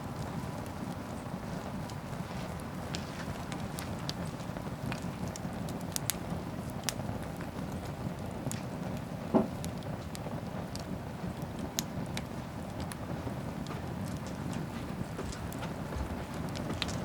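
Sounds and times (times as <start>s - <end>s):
bonfire rumbling: 0.0s - 17.0s
fire crackles and pops: 0.0s - 17.0s.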